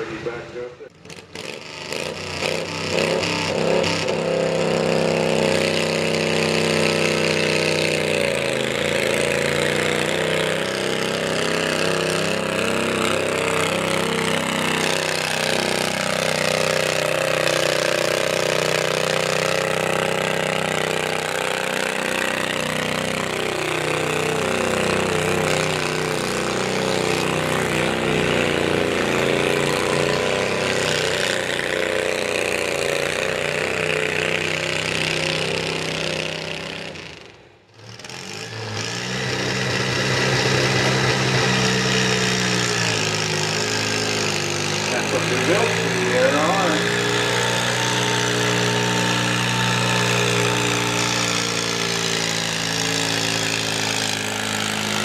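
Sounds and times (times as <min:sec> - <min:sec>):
tractor engine at full throttle: 0:00.0 - 0:55.0.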